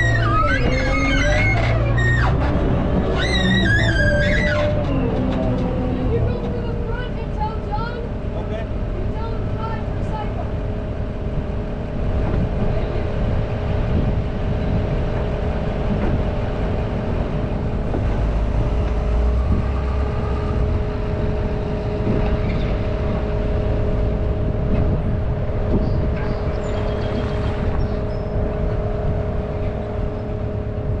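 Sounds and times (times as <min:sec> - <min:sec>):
steady engine whine: 0:00.0 - 0:31.0
wheel loader engine rumbling: 0:00.0 - 0:31.0.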